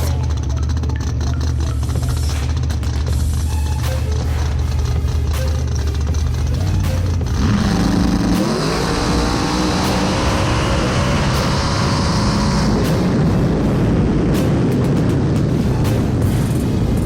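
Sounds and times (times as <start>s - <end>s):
race car engine revving high: 0.0s - 17.0s.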